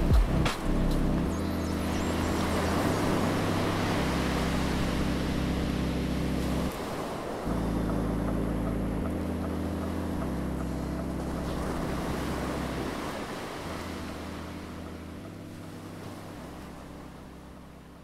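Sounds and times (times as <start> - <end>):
steady rushing wash: 0.0 - 18.0
sustained low shifting tones: 0.0 - 18.0.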